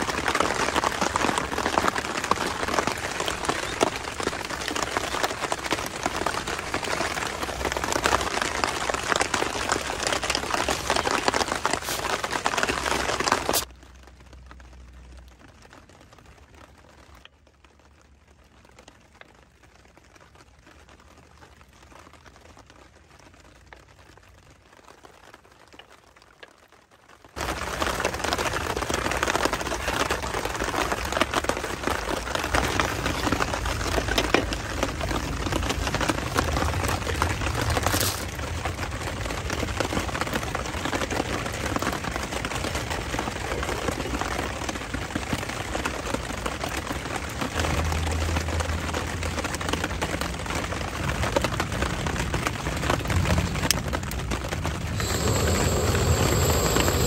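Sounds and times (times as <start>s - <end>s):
rain falling on a tent: 0.0s - 57.0s.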